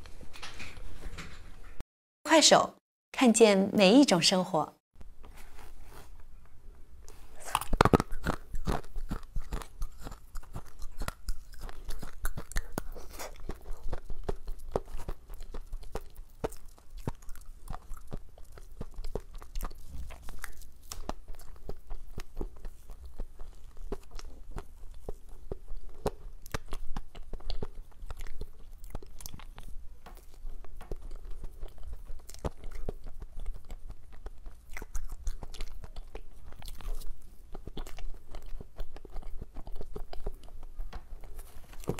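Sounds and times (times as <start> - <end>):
chewing and biting cake: 7.0 - 41.9.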